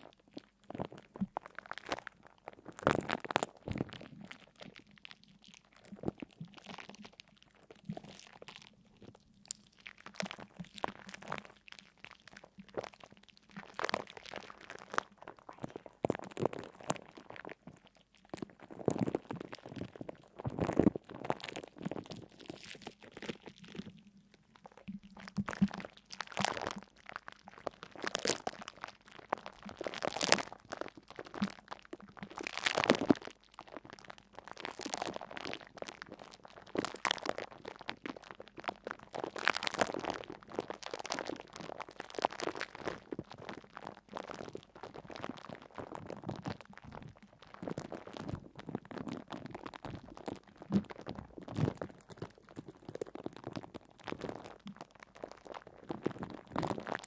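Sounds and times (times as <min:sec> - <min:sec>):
brittle crunching and crackling: 0:00.4 - 0:24.0, 0:24.6 - 0:57.0.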